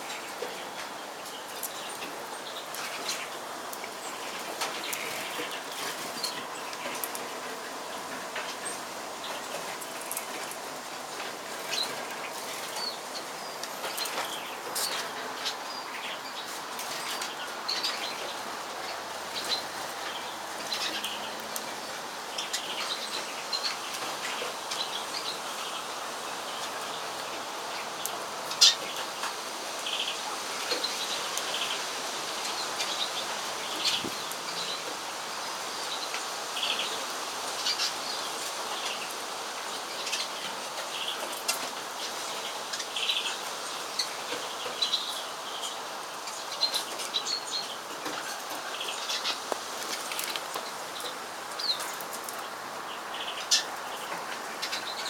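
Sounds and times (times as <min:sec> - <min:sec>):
small birds chirping: 0:00.0 - 0:55.0
steady background hiss: 0:00.0 - 0:55.0.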